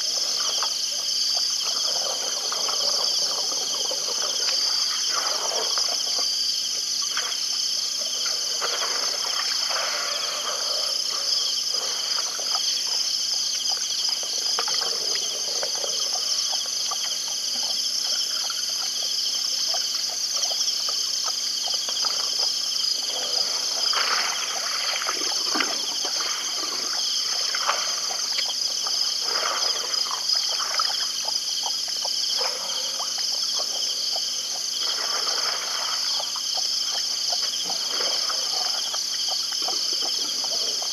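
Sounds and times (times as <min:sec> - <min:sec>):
night insects trilling: 0:00.0 - 0:40.9.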